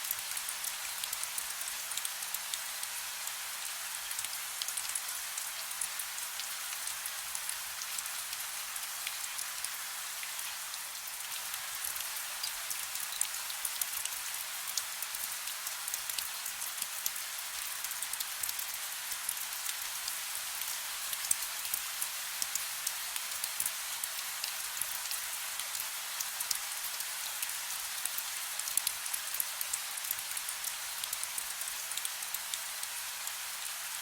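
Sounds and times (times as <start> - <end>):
soft rain hissing: 0.0 - 34.0.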